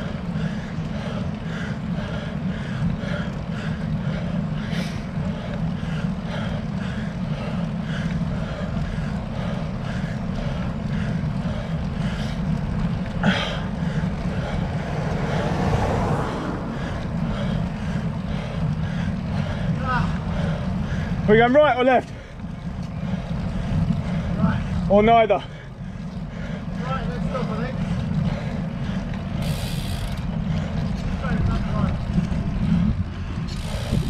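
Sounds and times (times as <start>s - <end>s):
tyres rumbling on tarmac: 0.0s - 34.0s
wind: 0.0s - 34.0s.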